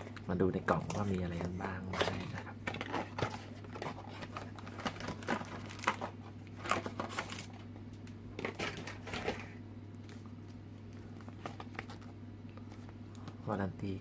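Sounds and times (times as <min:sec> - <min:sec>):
packaging rustling and crinkling: 0:00.0 - 0:13.4
steady low hum: 0:00.0 - 0:14.0.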